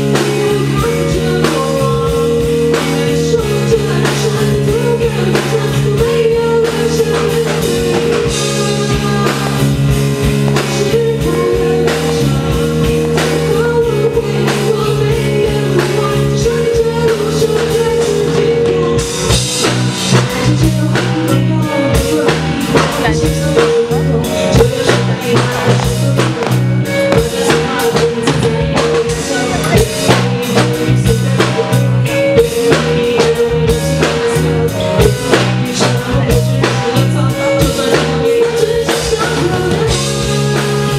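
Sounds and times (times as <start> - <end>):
drums and cymbals: 0.0 - 40.9
live band playing: 0.0 - 40.9.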